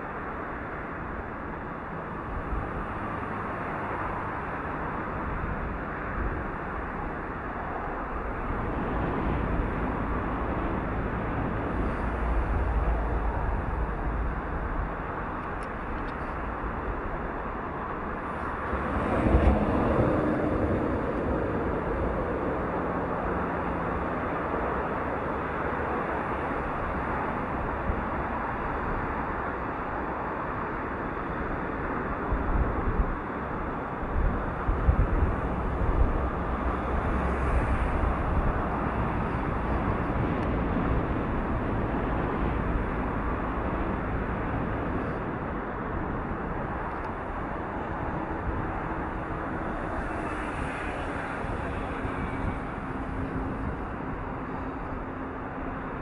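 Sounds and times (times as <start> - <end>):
rushing outdoor noise: 0.0 - 56.0.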